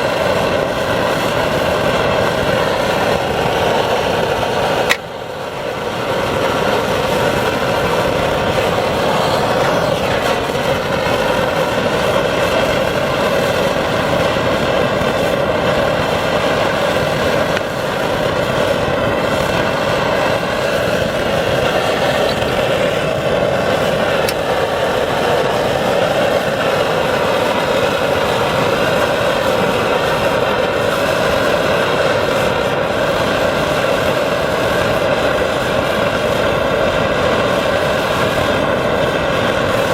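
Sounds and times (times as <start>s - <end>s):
camping stove burning: 0.0s - 39.9s.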